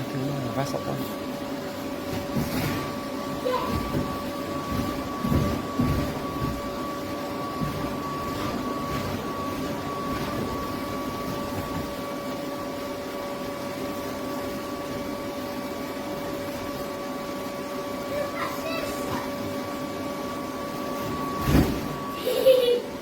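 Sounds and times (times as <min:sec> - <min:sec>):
electric air blower droning: 0:00.0 - 0:23.0.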